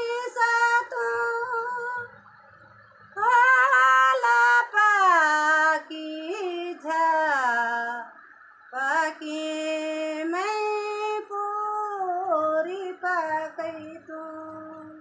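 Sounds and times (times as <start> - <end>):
woman singing unaccompanied: 0.0 - 2.2, 3.1 - 15.0.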